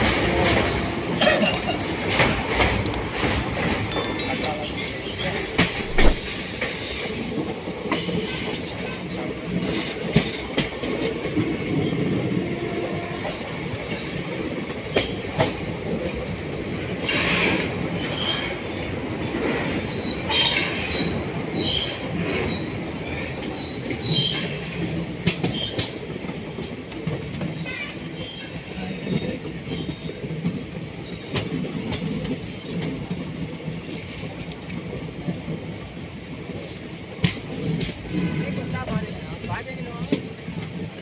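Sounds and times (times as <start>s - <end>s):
train rumbling on rails: 0.0s - 3.9s, 4.5s - 41.0s.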